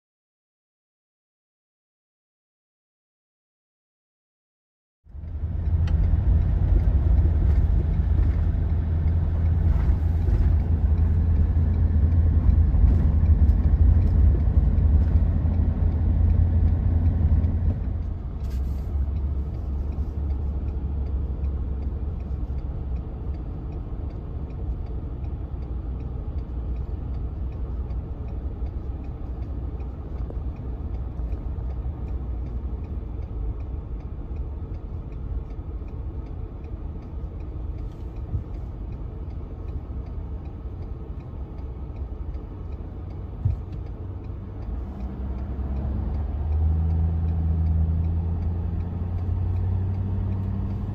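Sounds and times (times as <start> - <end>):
road and engine rumble in vehicle: 5.0 - 50.9.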